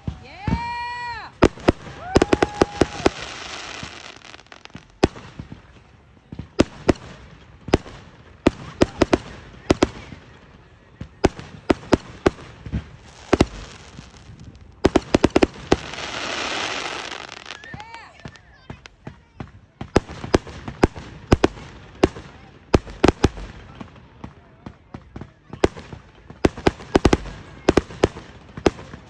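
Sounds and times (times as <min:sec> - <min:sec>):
fireworks bangs: 0:00.0 - 0:29.0
fireworks hissing crackle: 0:00.0 - 0:29.0.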